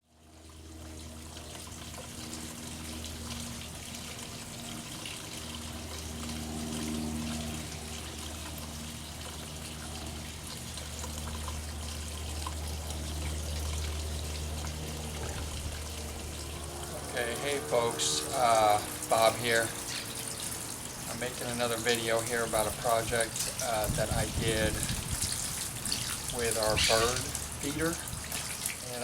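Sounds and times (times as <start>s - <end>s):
fountain water trickling: 0.0s - 29.0s
low pump hum: 0.0s - 29.0s.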